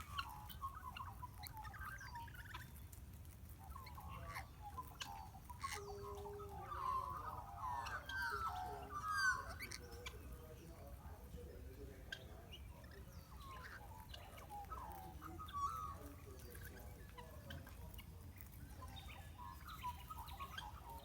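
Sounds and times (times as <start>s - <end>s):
parrots chattering: 0.0s - 21.0s.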